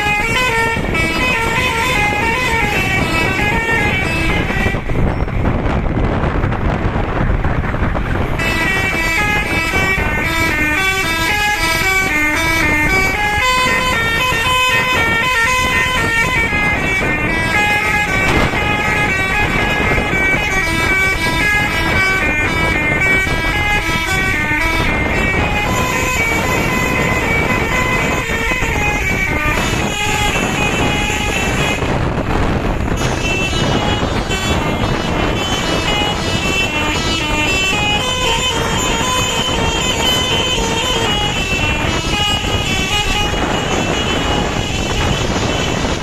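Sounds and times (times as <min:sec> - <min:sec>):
bus horn playing a tune: 0:00.0 - 0:46.0.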